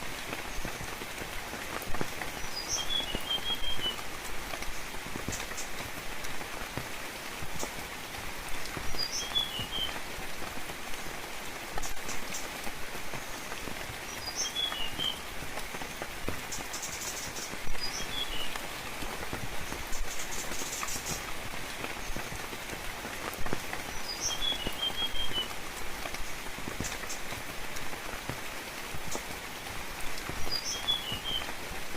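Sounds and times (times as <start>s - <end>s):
steady rainfall: 0.0s - 31.9s.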